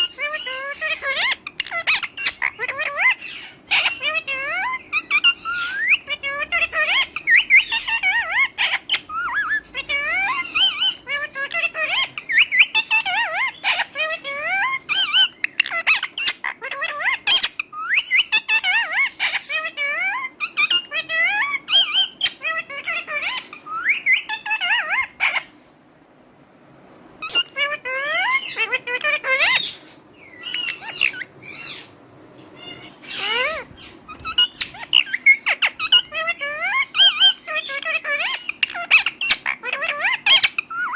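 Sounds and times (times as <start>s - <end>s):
parrot whistling and squawking: 0.0s - 25.6s, 27.2s - 40.9s.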